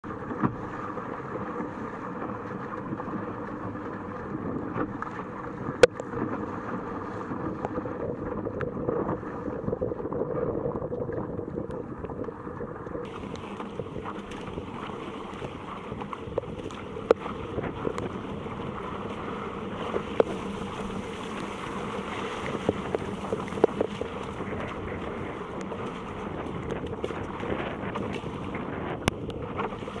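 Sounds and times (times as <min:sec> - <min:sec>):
water splashing along kayak bow: 0:00.0 - 0:30.0
wind noise on microphone: 0:00.0 - 0:30.0.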